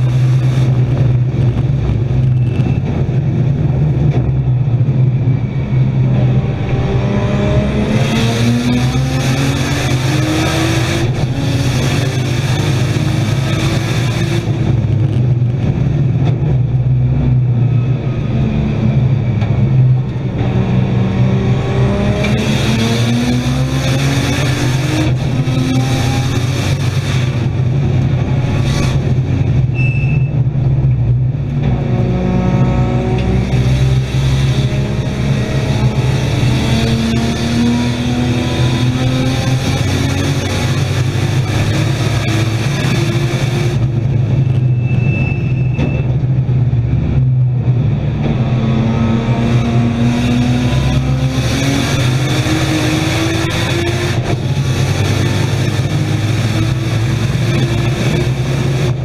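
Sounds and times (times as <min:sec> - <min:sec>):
race engine accelerating through gears: 0:00.0 - 0:59.0
road and cabin noise drone: 0:00.0 - 0:59.0.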